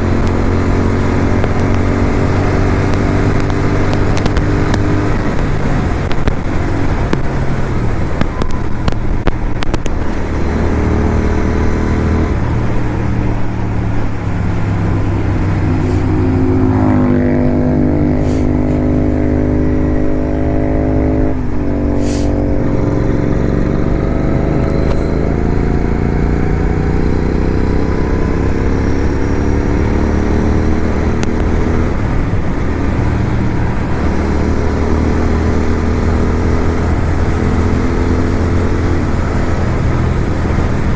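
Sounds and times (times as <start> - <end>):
motorcycle engine: 0.0 - 40.9
road noise: 0.0 - 40.9
wind noise: 0.0 - 40.9.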